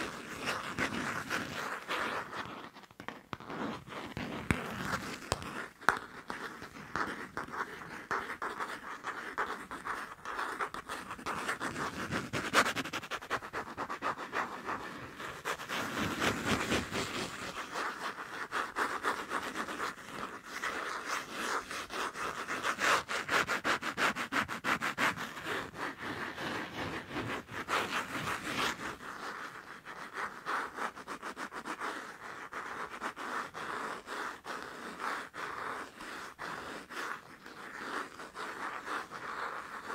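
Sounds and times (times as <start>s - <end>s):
fast tapping and scratching: 0.0s - 39.9s.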